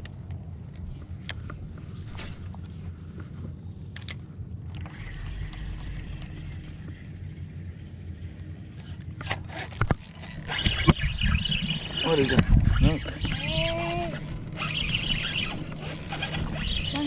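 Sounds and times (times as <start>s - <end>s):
electric trolling motor humming: 0.9s - 17.0s.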